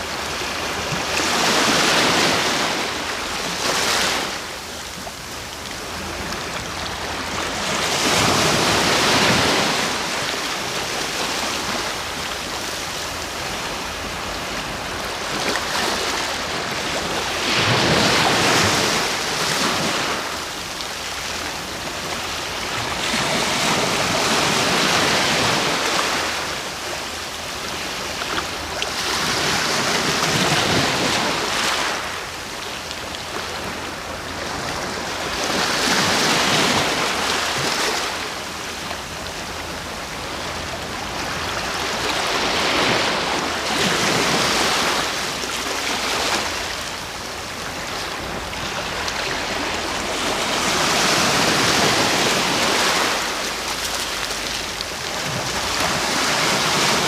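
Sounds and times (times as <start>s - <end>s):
sea waves breaking ashore: 0.0s - 57.0s.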